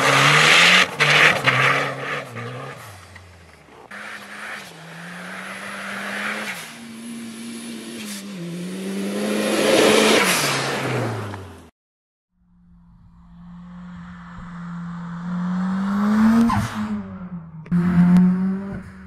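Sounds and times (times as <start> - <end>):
car engine revving hard: 0.0 - 11.5, 13.6 - 19.0.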